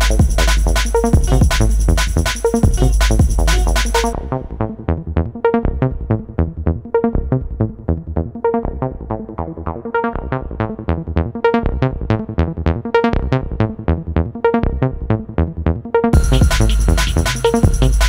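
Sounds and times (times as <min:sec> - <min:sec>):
plucked synthesizer notes: 0:00.0 - 0:18.0.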